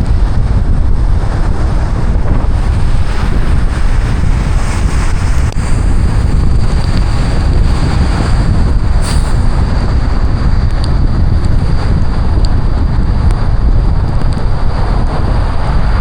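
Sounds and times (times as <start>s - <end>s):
rain and tyre spray rumbling: 0.0s - 16.0s.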